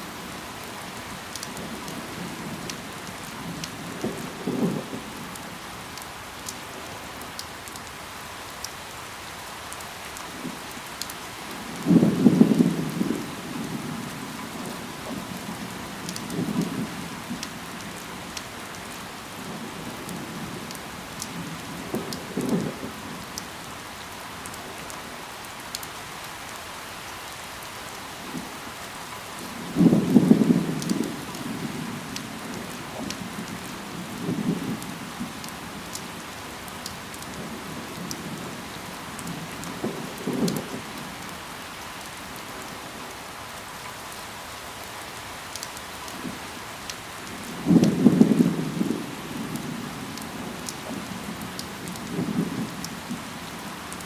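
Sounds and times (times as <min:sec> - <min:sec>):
steady rain falling: 0:00.0 - 0:54.0
raindrops ticking: 0:00.6 - 0:08.8, 0:09.7 - 0:23.6, 0:29.1 - 0:43.2, 0:44.8 - 0:54.0.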